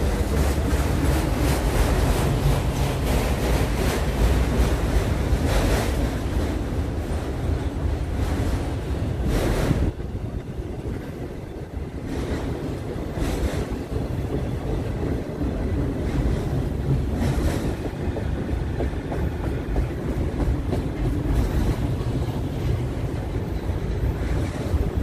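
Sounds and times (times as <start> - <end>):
freight train wheels rumbling: 0.0 - 25.0
train rattling: 0.0 - 25.0
wind buffeting microphone: 0.0 - 25.0.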